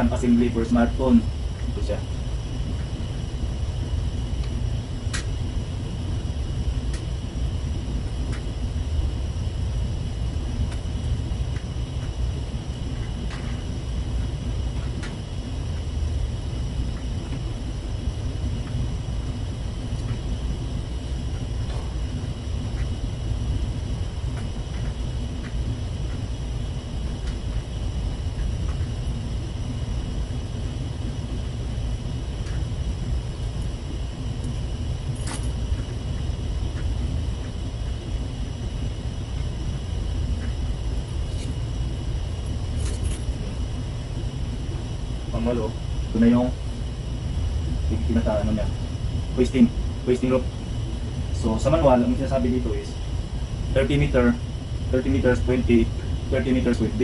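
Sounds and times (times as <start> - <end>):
ship machinery rumble: 0.0 - 57.0.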